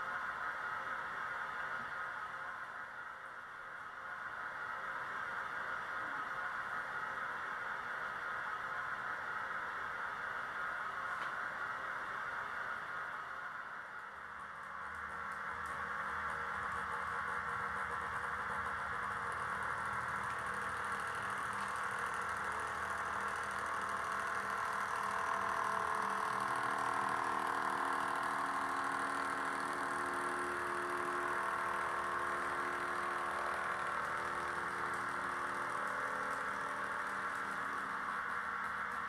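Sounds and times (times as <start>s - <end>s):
electric locomotive hum and whine: 0.0s - 39.0s.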